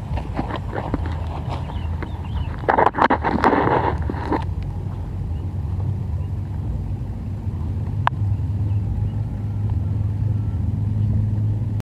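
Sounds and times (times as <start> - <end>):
engine humming: 0.0 - 11.8.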